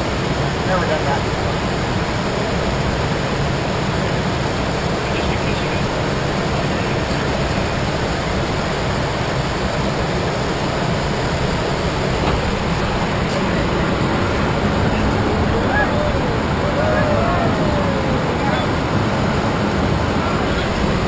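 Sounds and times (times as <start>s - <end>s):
jet cockpit airflow and engine noise: 0.0s - 21.0s.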